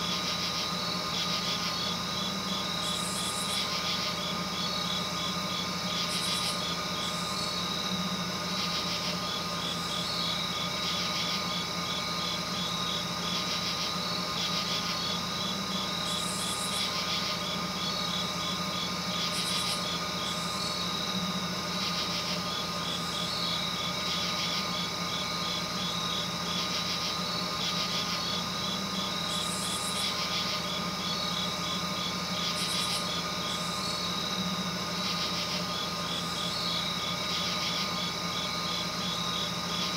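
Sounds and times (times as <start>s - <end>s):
high buzzing trills: 0.0s - 39.9s
insects chirping: 0.0s - 39.9s
steady hum: 0.0s - 39.9s.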